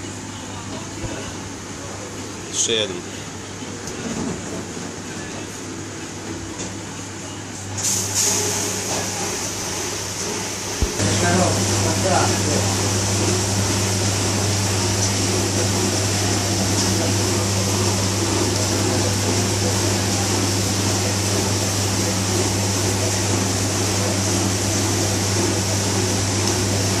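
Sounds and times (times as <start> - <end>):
kitchen fan whirring: 0.0 - 27.0
low electrical hum: 0.0 - 27.0.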